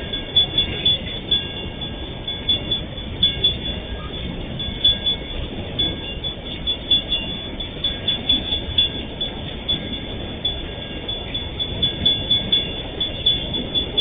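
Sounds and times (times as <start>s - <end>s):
high-pitched metallic tones: 0.0s - 14.0s
train wheels rumbling on rail: 0.0s - 14.0s.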